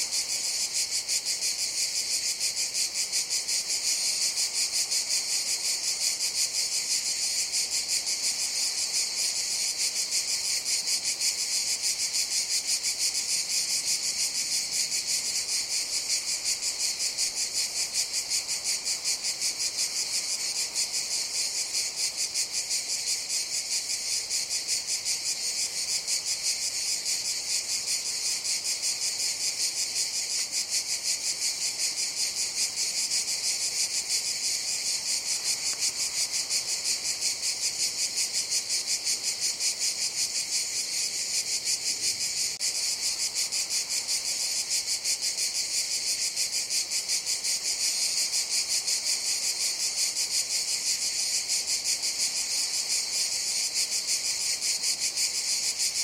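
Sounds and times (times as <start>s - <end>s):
cicadas chorus: 0.0s - 56.0s.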